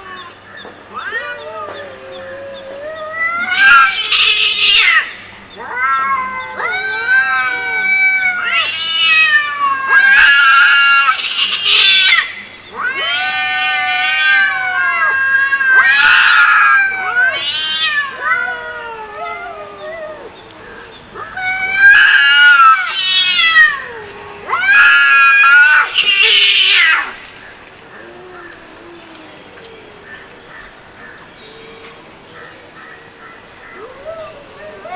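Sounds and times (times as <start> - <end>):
cats yowling: 0.0 - 33.0, 33.7 - 34.9.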